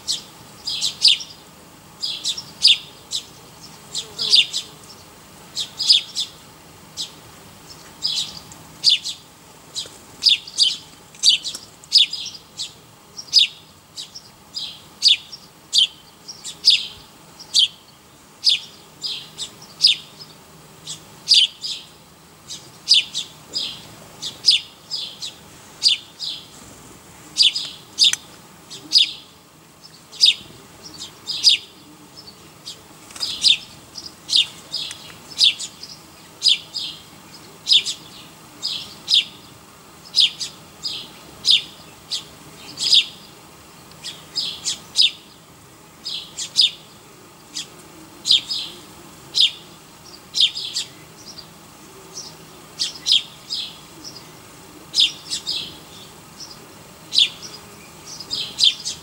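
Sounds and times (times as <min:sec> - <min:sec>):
small bird chirping: 0:00.0 - 0:01.4, 0:02.0 - 0:06.4, 0:07.0 - 0:26.5, 0:27.4 - 0:45.4, 0:46.0 - 0:48.7, 0:49.4 - 0:51.5, 0:52.2 - 0:54.3, 0:54.9 - 0:59.0.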